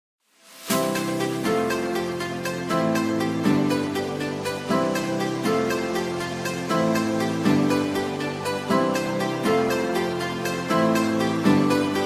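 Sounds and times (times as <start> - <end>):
music with steady beat and chords: 0.5 - 12.0.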